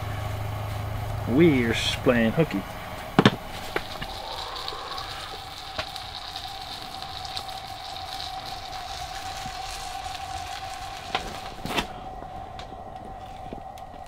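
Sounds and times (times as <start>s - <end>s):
camp stove burner hissing: 0.0s - 14.0s
faint steady hum: 0.0s - 14.0s.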